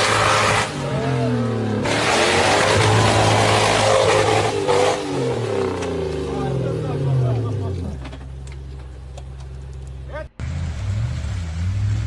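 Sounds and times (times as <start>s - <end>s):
off-road vehicle engine revving: 0.0s - 8.8s, 9.5s - 12.0s.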